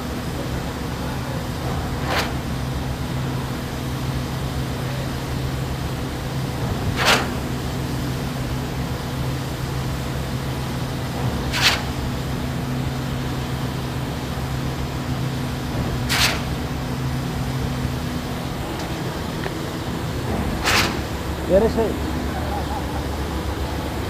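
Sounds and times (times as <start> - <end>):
concrete pump engine drone: 0.0 - 24.0.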